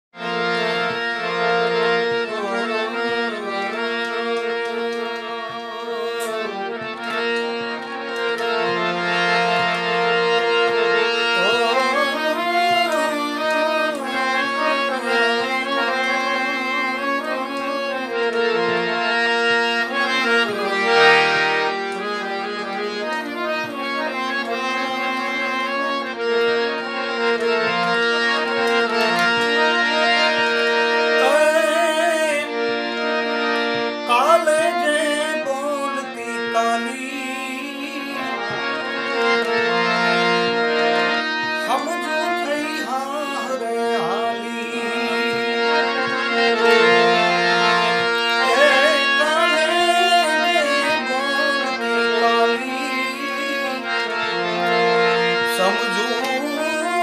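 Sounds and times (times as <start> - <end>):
harmonium folk melody: 0.0 - 57.0
harmonium drone: 0.1 - 57.0.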